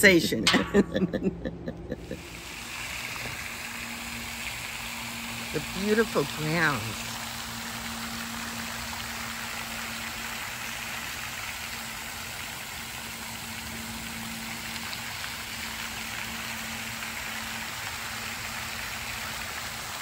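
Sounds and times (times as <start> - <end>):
low hum: 0.0 - 19.0
fountain water splashing: 2.0 - 20.0.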